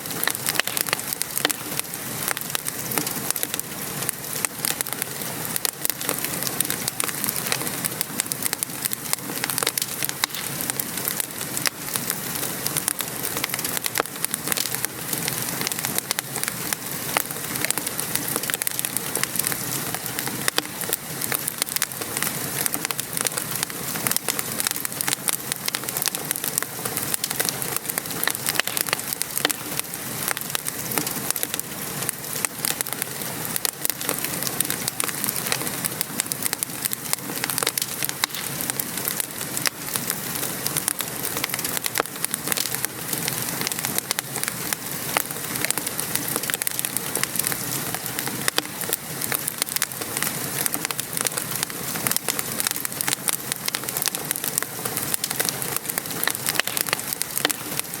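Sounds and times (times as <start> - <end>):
rain pattering: 0.0 - 58.0
wood fire crackling: 0.0 - 58.0.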